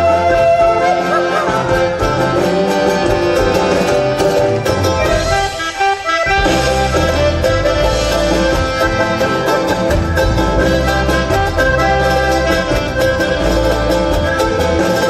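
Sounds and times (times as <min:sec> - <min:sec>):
folk music with guitar and accordion: 0:00.0 - 0:15.0.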